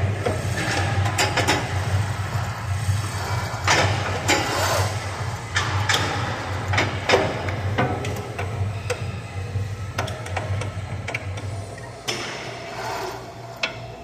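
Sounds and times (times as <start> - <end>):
gym equipment clicks and clanks: 0.0 - 14.0
steady low hum: 0.0 - 14.0.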